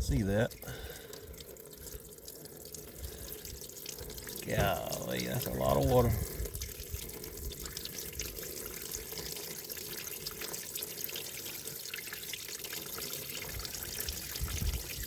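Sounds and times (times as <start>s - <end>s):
water pouring and splashing: 0.0s - 15.0s.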